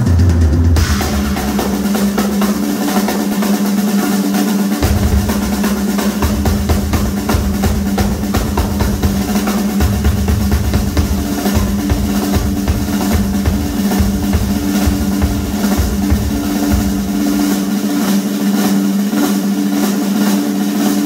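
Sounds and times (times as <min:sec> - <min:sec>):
bass drums: 0:00.0 - 0:18.8
fast drum roll: 0:00.0 - 0:21.0.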